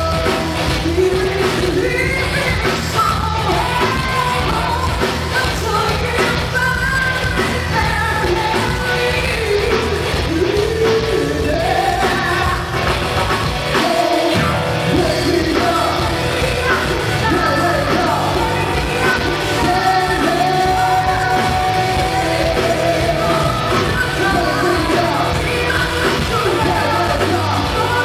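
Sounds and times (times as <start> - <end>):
woman singing into microphone: 0.0 - 13.0, 13.7 - 28.0
live band electric guitars and drums: 0.0 - 28.0.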